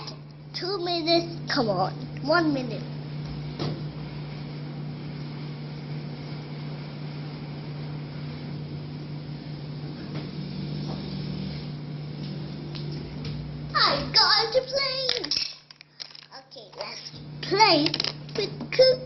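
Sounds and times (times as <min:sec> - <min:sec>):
room noise hiss: 0:00.0 - 0:17.8
low steady hum: 0:00.0 - 0:19.0.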